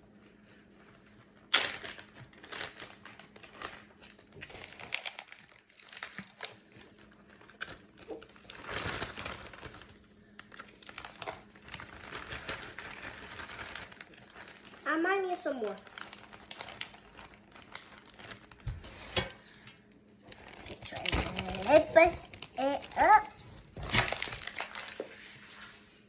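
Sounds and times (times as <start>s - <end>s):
plastic packaging crinkling: 0.8s - 26.0s.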